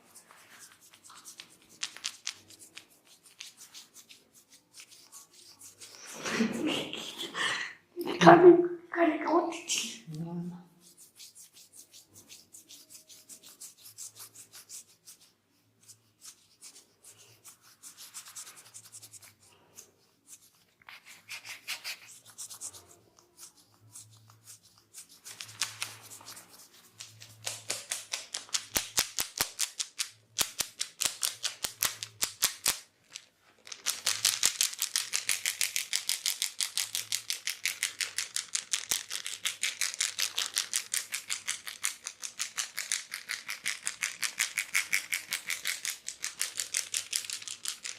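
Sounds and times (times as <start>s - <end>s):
hands rubbing hair: 0.0s - 7.5s, 10.7s - 47.9s.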